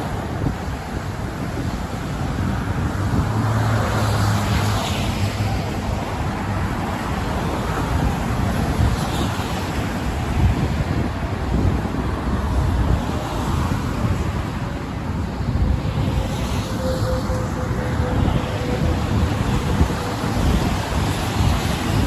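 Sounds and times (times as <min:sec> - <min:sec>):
road traffic noise: 0:00.0 - 0:22.0
vehicles passing close by: 0:00.0 - 0:22.0
wind: 0:00.0 - 0:22.0.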